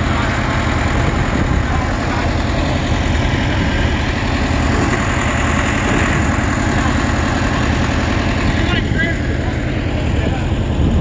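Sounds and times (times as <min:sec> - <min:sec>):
forklift engine idling: 0:00.0 - 0:11.0.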